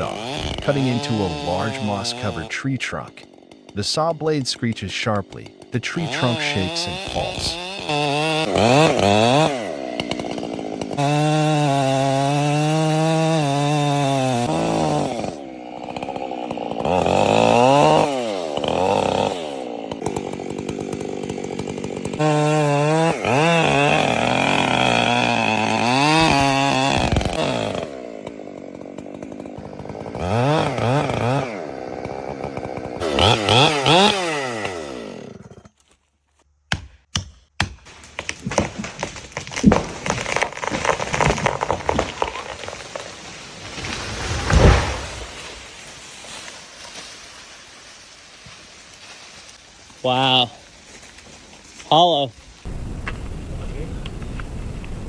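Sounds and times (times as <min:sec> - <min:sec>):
chainsaw cutting tree trunk: 0:00.0 - 0:36.0, 0:36.6 - 0:55.0.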